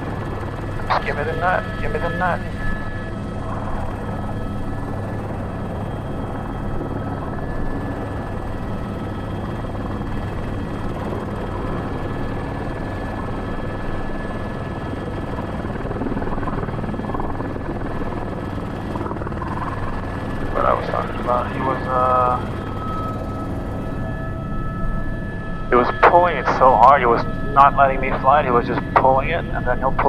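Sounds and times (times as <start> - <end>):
helicopter rotor and engine noise: 0.0 - 30.0
high turbine whine: 0.0 - 30.0.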